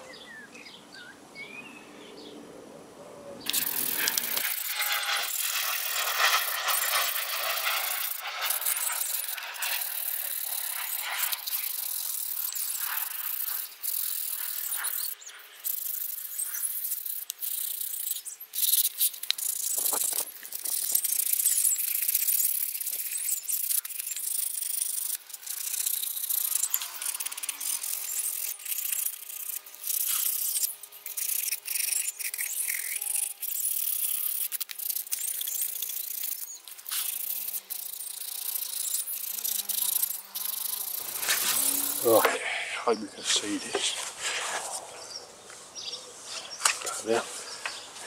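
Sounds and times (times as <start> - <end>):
sandpaper scratching on wood: 3.5 - 42.3.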